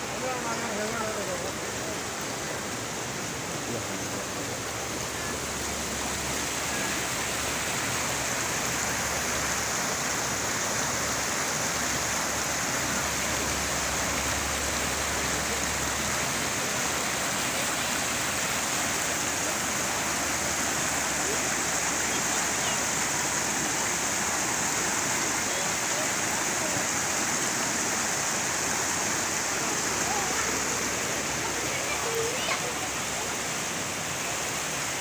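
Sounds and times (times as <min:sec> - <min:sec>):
rushing water hiss: 0:00.0 - 0:35.0.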